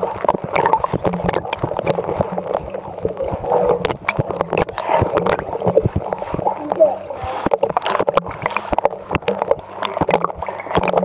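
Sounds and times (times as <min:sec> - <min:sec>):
water churning and bubbling: 0:00.0 - 0:11.0.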